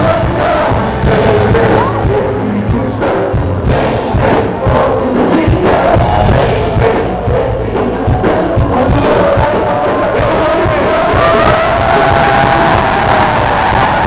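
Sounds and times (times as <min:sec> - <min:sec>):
live band music: 0:00.0 - 0:14.0
person singing: 0:00.0 - 0:14.0
steady drum beat: 0:00.0 - 0:14.0.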